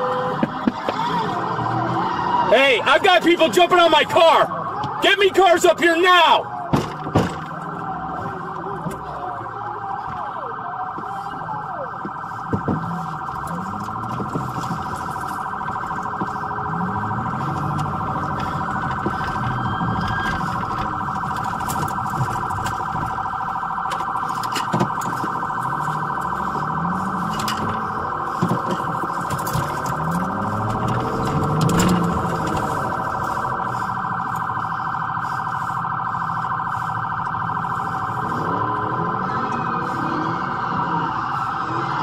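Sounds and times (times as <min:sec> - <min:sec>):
police siren warbling: 0:00.0 - 0:42.0
rising and falling siren tone: 0:00.0 - 0:42.0.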